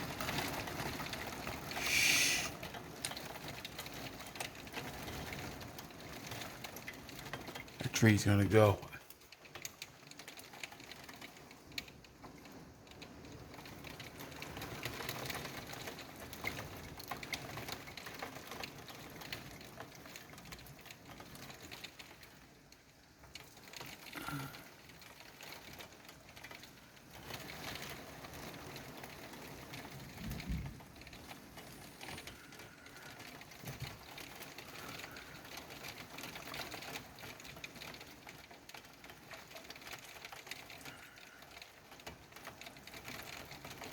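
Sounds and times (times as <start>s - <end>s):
heavy rain pattering: 0.0s - 43.9s.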